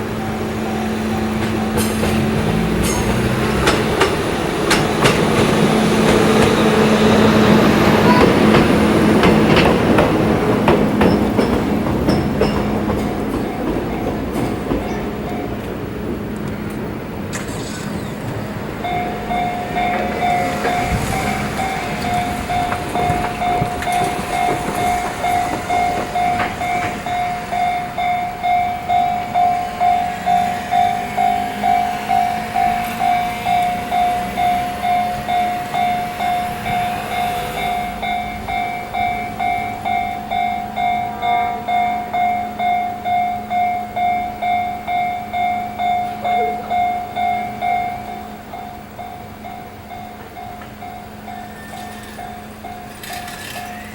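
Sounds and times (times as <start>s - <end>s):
level-crossing warning bell ringing: 0.0s - 16.2s, 18.2s - 53.9s
electric train running past: 0.0s - 53.9s.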